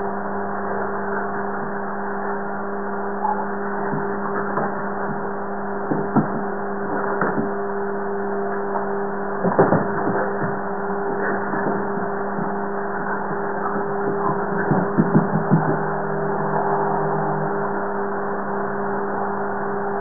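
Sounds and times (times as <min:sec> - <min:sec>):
low electric hum: 0:00.0 - 0:20.0.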